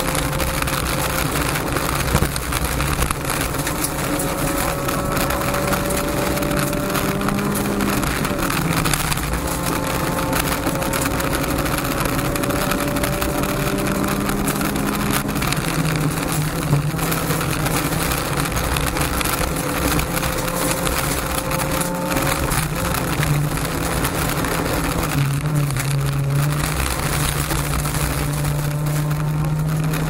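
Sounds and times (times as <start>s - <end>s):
car engine pulling hard: 0.0s - 30.0s
road and tyre noise: 0.0s - 30.0s.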